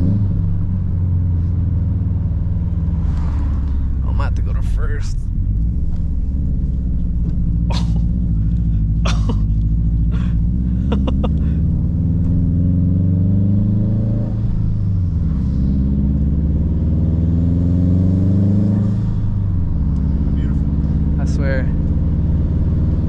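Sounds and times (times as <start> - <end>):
car engine pulling uphill: 0.0 - 23.0.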